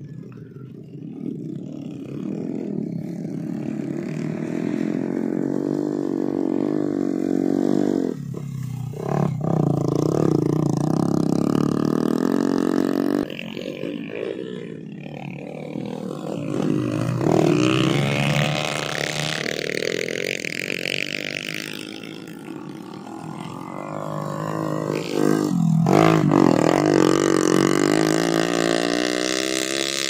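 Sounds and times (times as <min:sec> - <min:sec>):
small motorcycle engines under load: 0:00.0 - 0:30.0.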